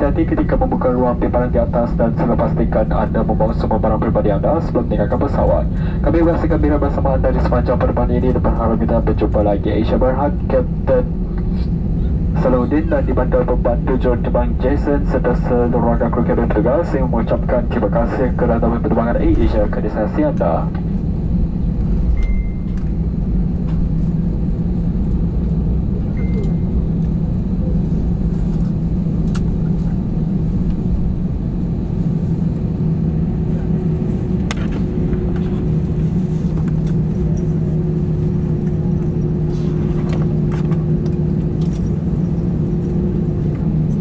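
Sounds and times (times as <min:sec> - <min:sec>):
jet engines idling hum: 0:00.0 - 0:44.0.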